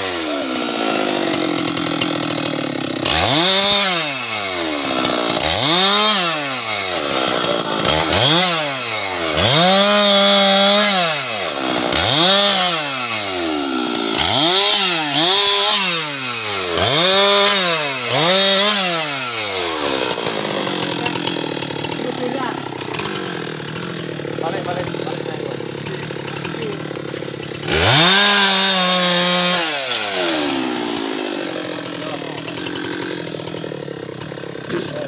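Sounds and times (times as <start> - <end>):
chainsaw revving: 0.0 - 35.0.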